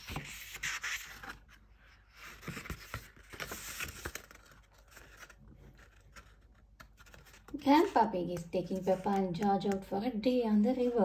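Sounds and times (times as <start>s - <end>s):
book pages rustling: 0.0s - 9.8s.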